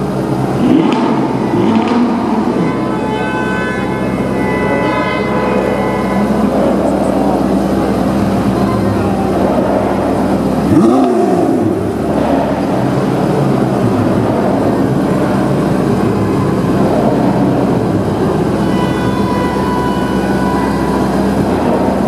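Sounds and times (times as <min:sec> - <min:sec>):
car engine idling: 0:00.0 - 0:22.0
engine rev blip: 0:00.0 - 0:22.0.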